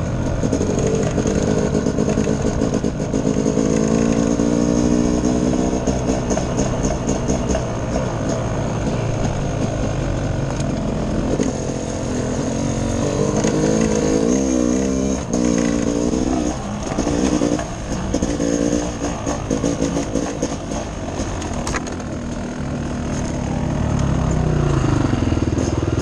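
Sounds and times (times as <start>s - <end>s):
dirt bike engine revving: 0.2s - 26.0s.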